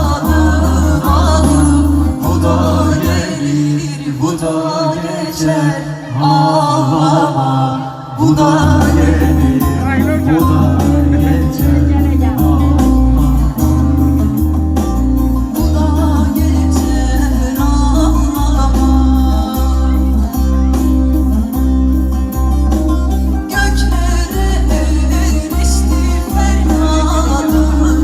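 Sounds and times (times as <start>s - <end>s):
band with heavy bass line: 0.0s - 28.0s
man singing: 0.0s - 28.0s.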